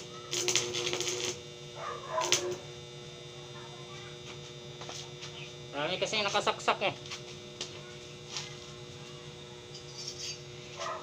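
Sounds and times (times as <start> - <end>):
steady electrical hum: 0.0 - 11.0
welding arc crackling: 0.0 - 11.0.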